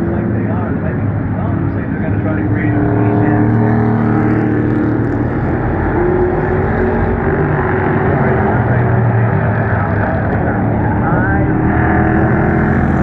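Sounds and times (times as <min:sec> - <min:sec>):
racing truck engines droning: 0:00.0 - 0:13.0.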